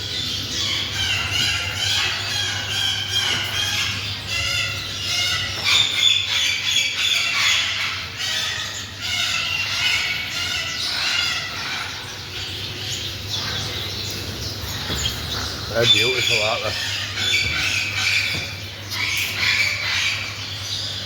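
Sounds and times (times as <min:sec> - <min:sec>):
caged birds squawking: 0:00.0 - 0:21.0
steady low hum: 0:00.0 - 0:21.0.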